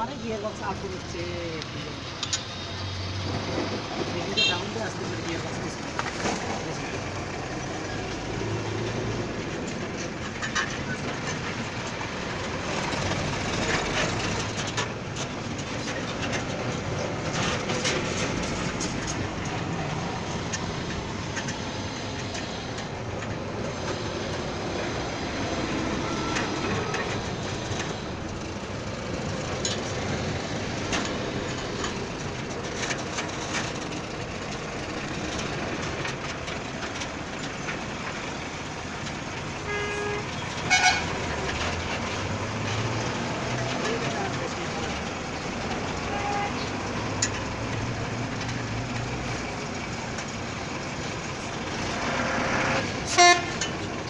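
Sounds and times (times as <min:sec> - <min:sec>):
metallic clanks and clatter: 0:03.2 - 0:54.0.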